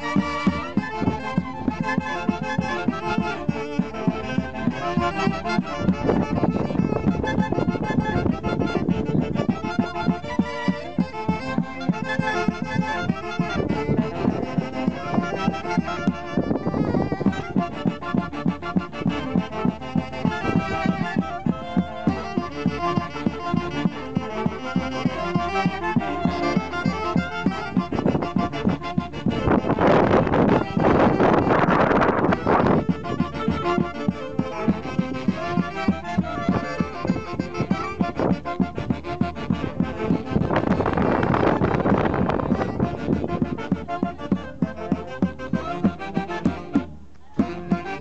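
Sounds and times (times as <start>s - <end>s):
folk orchestra playing dance music: 0.0s - 48.0s.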